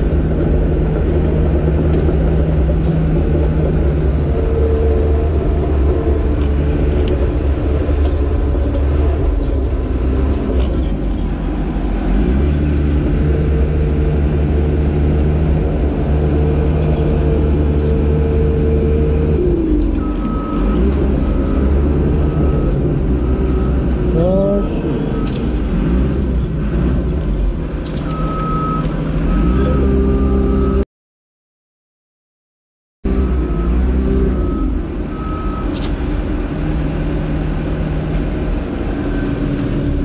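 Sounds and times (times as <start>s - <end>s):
bulldozer diesel engine running: 0.0s - 30.8s, 33.1s - 40.0s.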